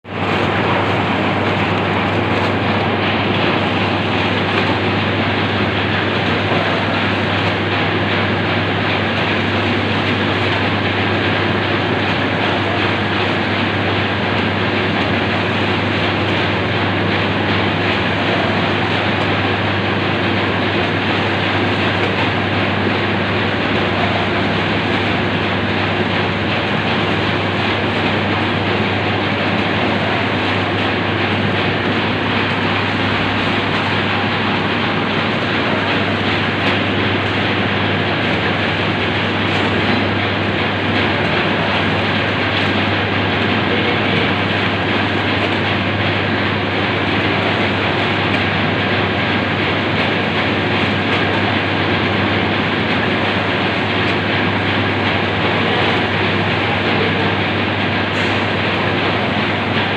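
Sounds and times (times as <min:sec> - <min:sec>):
packing machine running: 0:00.0 - 0:59.9.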